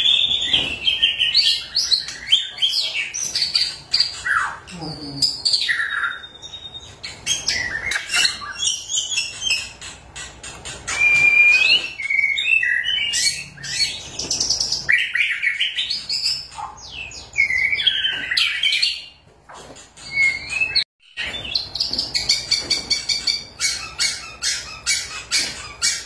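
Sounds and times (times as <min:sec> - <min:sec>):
songbird whistling and chattering: 0:00.0 - 0:19.2, 0:20.0 - 0:26.0.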